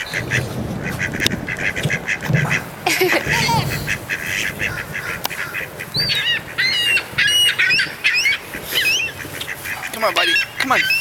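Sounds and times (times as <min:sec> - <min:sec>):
gulls and ducks calling: 0:00.0 - 0:11.0.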